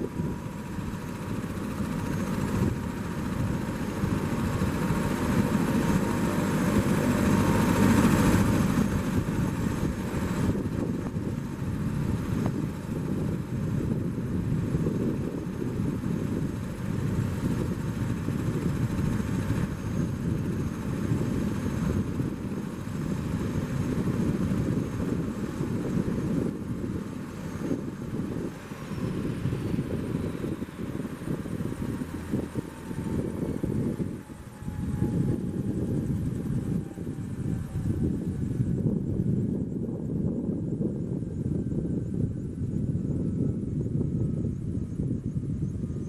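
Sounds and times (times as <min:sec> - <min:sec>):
helicopter engine and rotor rumble: 0:00.0 - 0:46.0.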